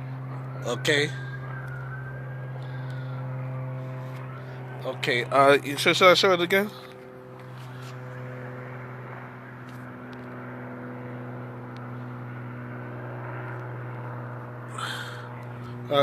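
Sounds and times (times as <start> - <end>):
airplane flying overhead: 0.0 - 16.0
constant low hum: 0.0 - 16.0.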